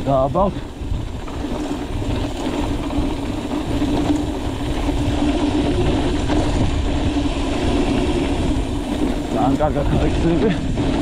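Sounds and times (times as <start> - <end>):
engine running: 1.0 - 11.0.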